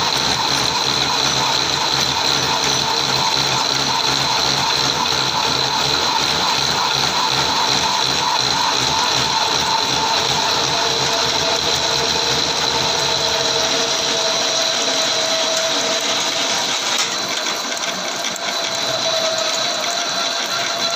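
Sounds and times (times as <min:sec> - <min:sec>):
metal lathe whirring: 0:00.0 - 0:20.9.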